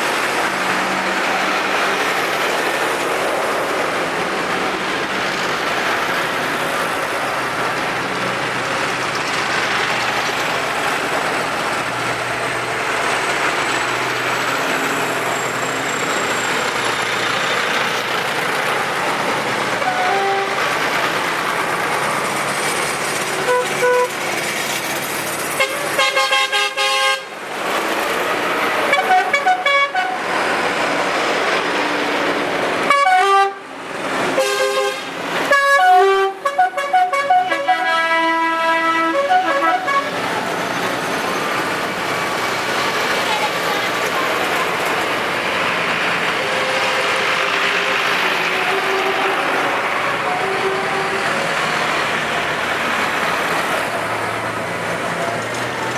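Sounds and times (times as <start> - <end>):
tractor engines running: 0.0 - 55.9.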